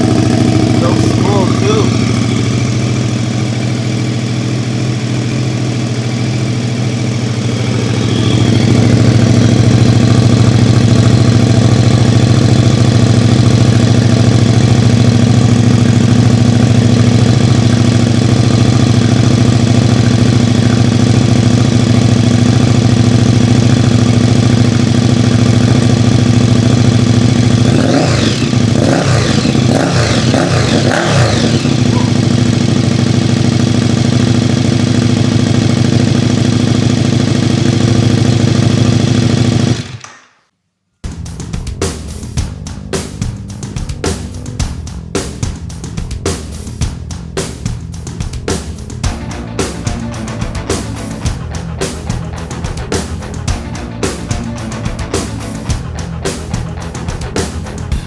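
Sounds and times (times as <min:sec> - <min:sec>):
motorcycle engine idling: 0:00.0 - 0:40.0, 0:41.0 - 0:58.0.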